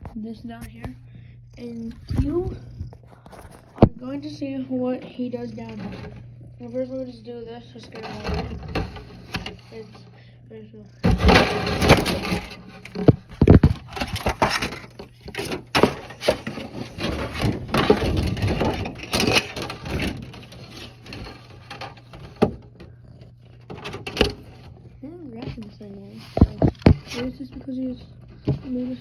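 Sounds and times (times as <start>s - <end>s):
hard objects scraping and knocking: 1.9s - 10.2s, 11.0s - 29.0s.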